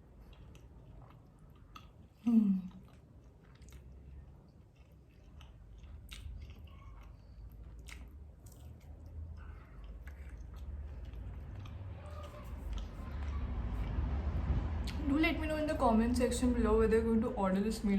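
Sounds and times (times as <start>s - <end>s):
chewing with wet clicks: 0.0s - 15.0s.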